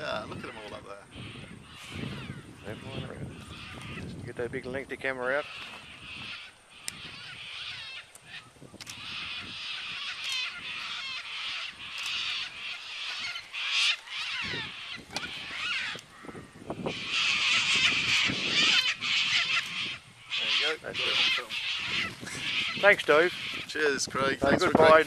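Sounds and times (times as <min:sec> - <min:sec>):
cockatoos screeching: 0:00.0 - 0:04.2, 0:05.1 - 0:25.0.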